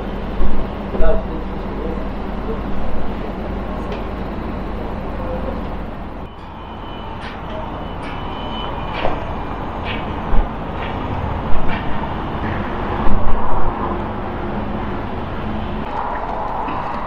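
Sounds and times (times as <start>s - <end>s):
engine-like rumble: 0.0s - 17.0s.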